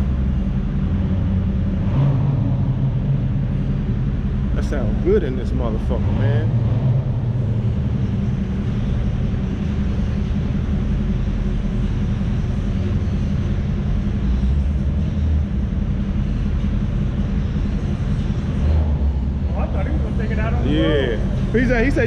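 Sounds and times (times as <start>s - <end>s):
car engine droning: 0.0s - 22.0s
road noise: 0.0s - 22.0s.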